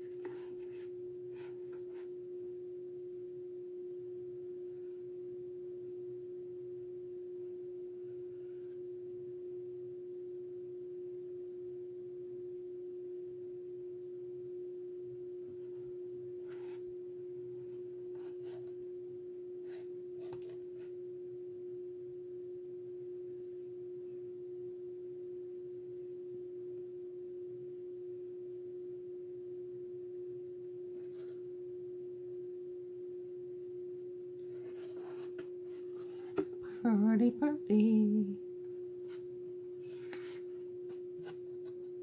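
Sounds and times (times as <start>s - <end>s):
steady single-pitch hum: 0.0s - 42.0s.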